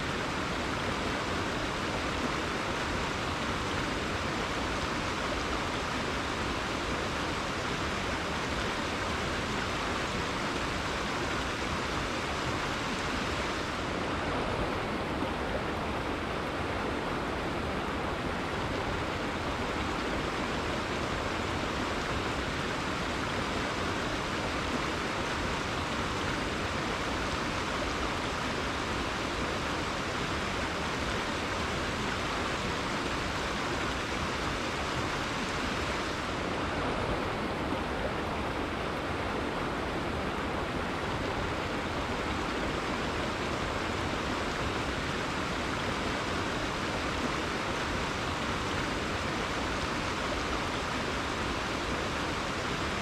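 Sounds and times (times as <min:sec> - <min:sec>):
river flowing: 0:00.0 - 0:53.0.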